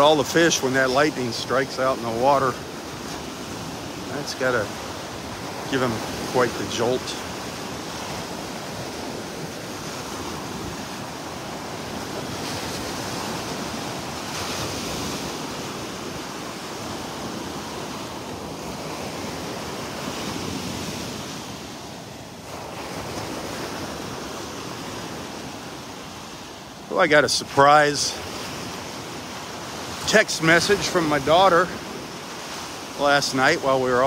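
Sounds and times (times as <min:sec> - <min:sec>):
surf washing on beach: 0:00.0 - 0:34.0.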